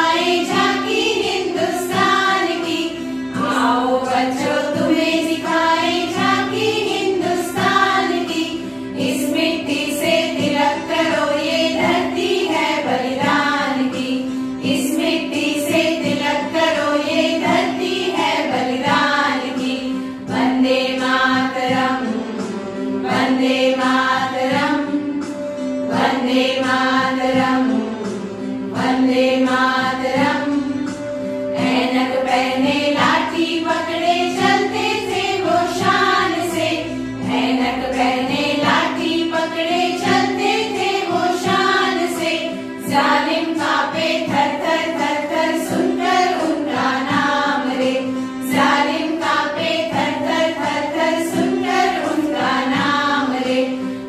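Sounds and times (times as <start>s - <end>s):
women's choir singing in unison: 0.0s - 54.0s.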